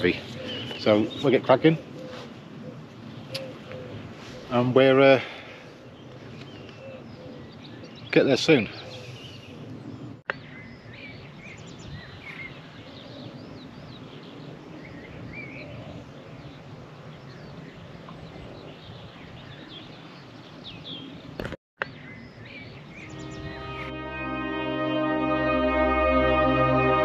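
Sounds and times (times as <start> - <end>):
songbirds chirping: 0.0 - 25.2.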